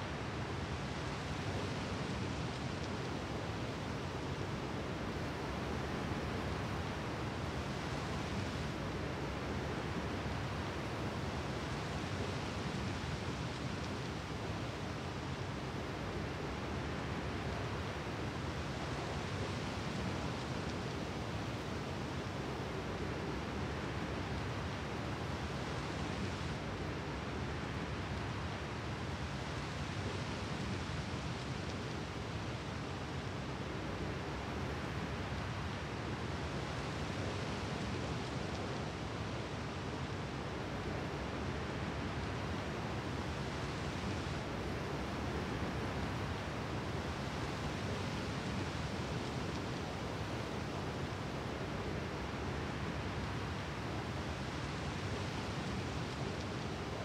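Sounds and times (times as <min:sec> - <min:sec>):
surf washing on a shore: 0:00.2 - 0:57.0.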